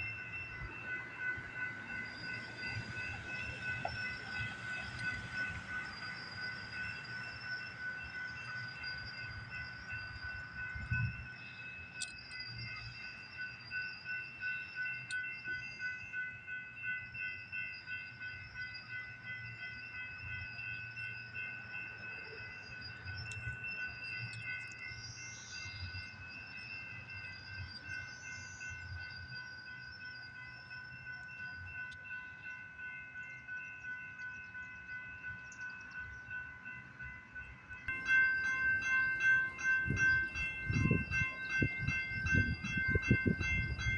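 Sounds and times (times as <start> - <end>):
low steady train rumble: 0.0 - 43.9
pulsing high ringing tones: 0.0 - 43.9.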